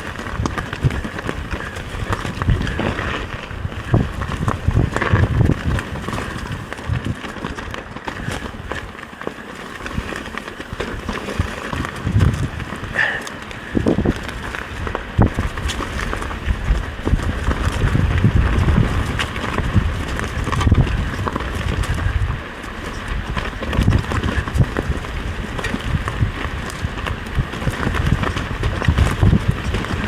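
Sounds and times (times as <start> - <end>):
bike rattling and knocking: 0.0 - 30.0
bike tyres rumbling over dirt: 0.0 - 30.0
wind noise: 0.0 - 30.0.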